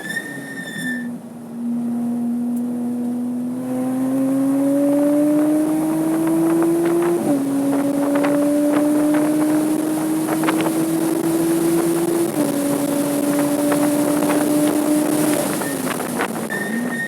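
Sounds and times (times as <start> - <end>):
car engine accelerating: 1.1 - 17.0.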